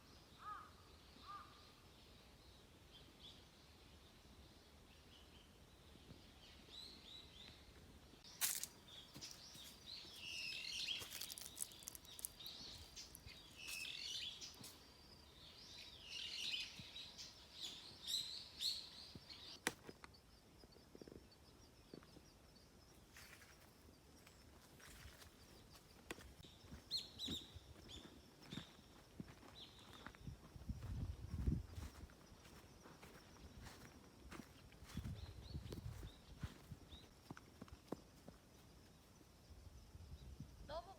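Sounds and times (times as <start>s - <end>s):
small birds chirping: 0.0s - 39.1s.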